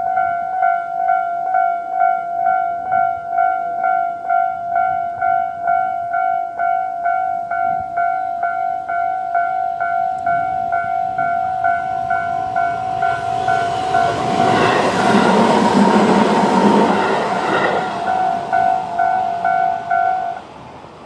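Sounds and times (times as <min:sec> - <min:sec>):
level crossing bell dinging: 0:00.0 - 0:14.7, 0:17.0 - 0:20.4
electric train rushing past: 0:00.0 - 0:21.0.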